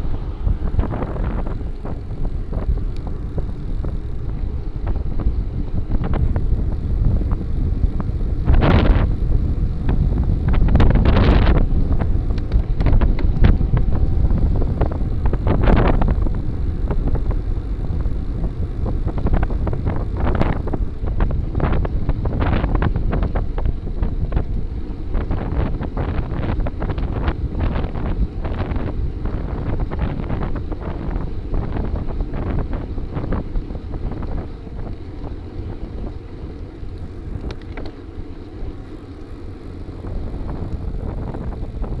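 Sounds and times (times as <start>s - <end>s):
short wind rushes: 0.0s - 42.0s
wind buffeting microphone: 0.0s - 42.0s.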